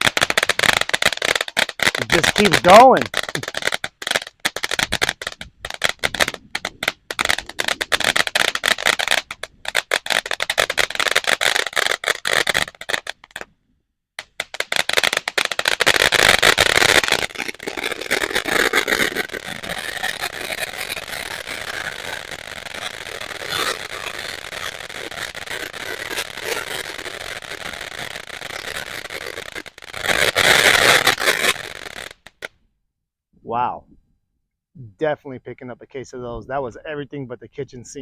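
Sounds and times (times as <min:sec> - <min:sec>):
firework fountain crackling: 0:00.0 - 0:13.4, 0:14.2 - 0:32.5
firework fountain hissing: 0:00.0 - 0:13.4, 0:14.2 - 0:32.5.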